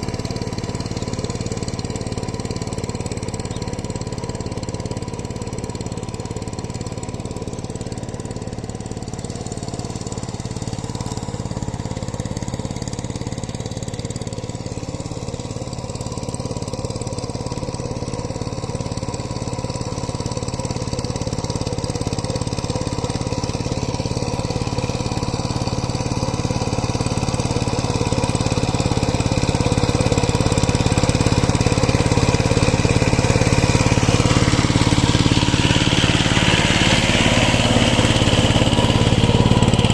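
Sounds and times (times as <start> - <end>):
power tiller engine running: 0.0 - 39.9.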